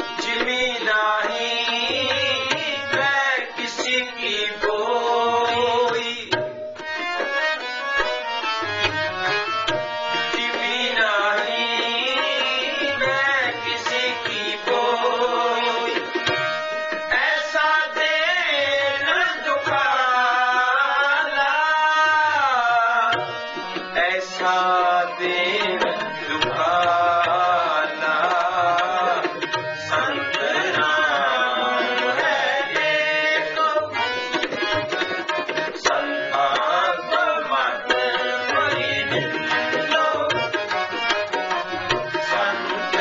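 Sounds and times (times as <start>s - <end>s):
man singing: 0.0s - 6.5s, 10.1s - 16.4s, 17.0s - 41.1s, 41.9s - 43.0s
harmonium notes: 0.0s - 43.0s
tabla rhythm: 0.0s - 43.0s.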